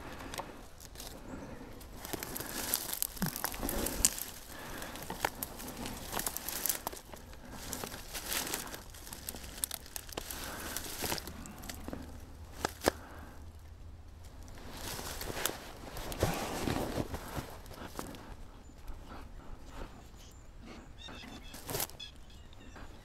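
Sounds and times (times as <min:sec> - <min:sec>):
twigs snapping: 0:00.0 - 0:01.2, 0:01.8 - 0:18.9, 0:21.6 - 0:22.0
dry leaves rustling underfoot: 0:00.0 - 0:19.0, 0:21.1 - 0:22.1.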